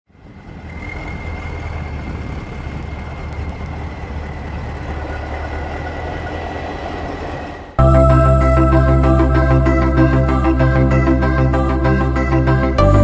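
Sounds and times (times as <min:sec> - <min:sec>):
vehicle engine rumble: 0:00.1 - 0:13.0.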